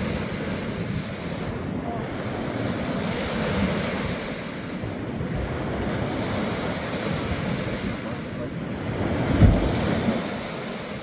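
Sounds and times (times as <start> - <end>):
small waves breaking on shore: 0.0 - 11.0
wind rumbling on microphone: 0.0 - 11.0.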